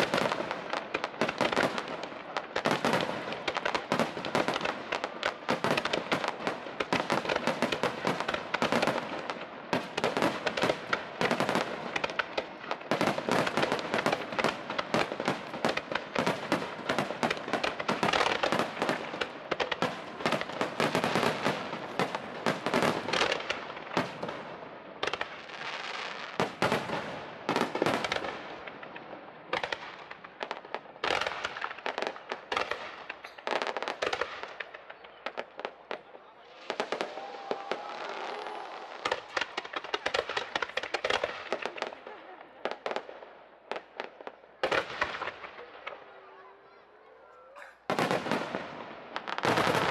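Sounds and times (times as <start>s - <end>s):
fireworks bangs and pops: 0.0s - 46.4s, 47.6s - 49.9s.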